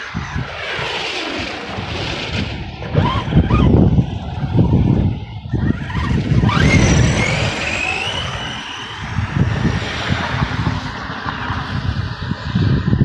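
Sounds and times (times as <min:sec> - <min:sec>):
electric motor whining: 0:00.0 - 0:13.0
low rumble of tyres: 0:00.0 - 0:13.0.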